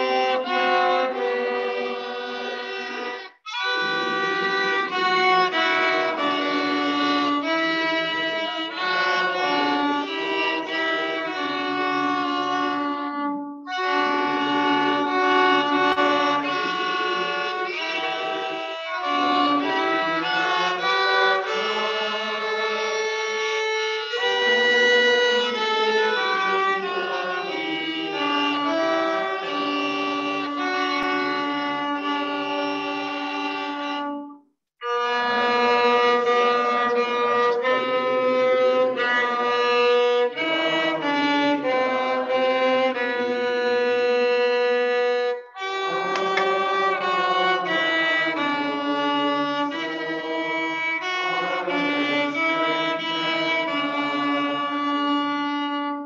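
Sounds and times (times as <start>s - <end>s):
violin duet: 0.0s - 56.0s.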